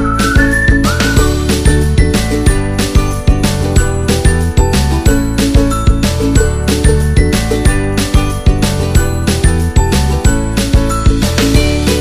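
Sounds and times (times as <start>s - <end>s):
jingling bell-like music with beat: 0.0s - 12.0s.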